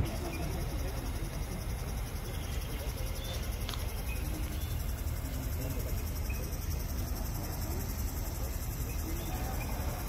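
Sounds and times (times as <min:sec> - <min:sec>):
faint scattered voices: 0:00.0 - 0:10.0.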